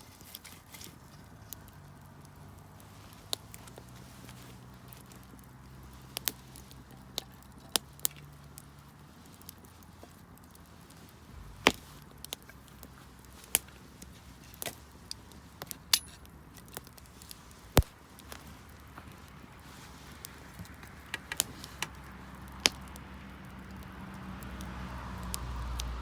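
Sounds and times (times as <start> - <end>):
burning wood popping and snapping: 0.0 - 26.0
wood bonfire crackling: 0.0 - 26.0.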